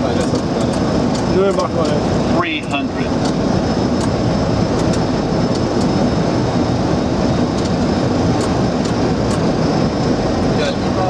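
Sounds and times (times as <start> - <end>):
cockpit airflow and engine noise: 0.0 - 11.0.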